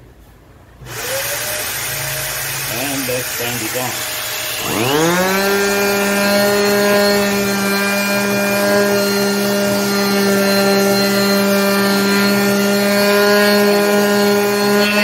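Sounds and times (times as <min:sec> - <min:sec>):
vacuum cleaner running: 0:00.8 - 0:15.0
orbital sander sanding wood: 0:00.9 - 0:15.0.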